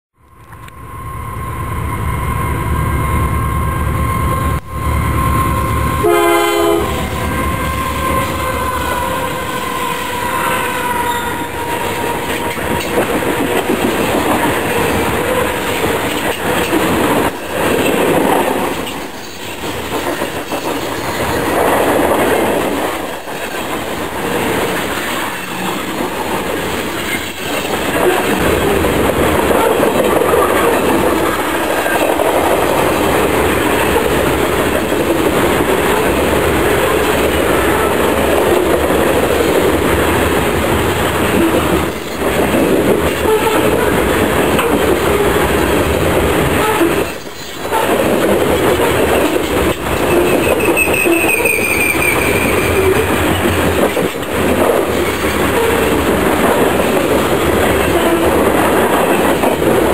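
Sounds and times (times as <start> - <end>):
diesel locomotive engine rumble: 0.2 - 59.9
train wheels clattering on bridge: 11.6 - 59.9.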